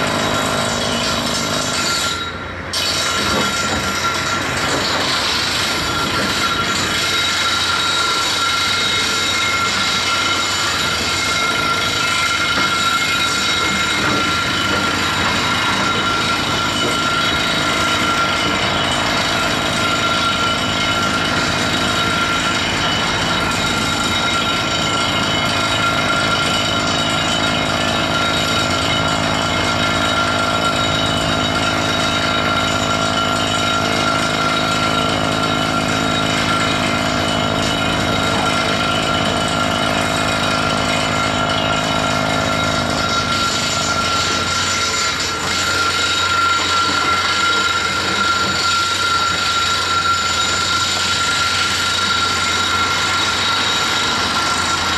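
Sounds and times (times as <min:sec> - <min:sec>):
excavator engine and hydraulics: 0:00.0 - 0:54.9.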